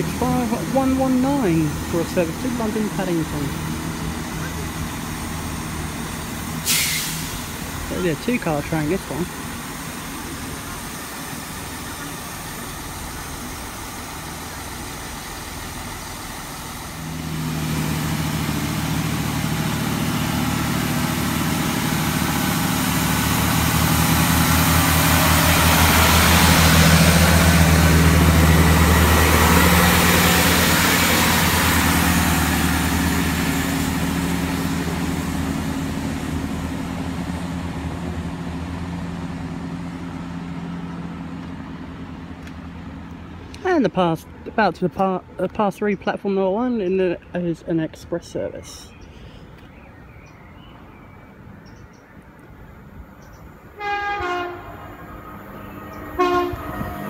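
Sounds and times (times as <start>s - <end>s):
diesel train engines pulsing: 0.0s - 57.0s.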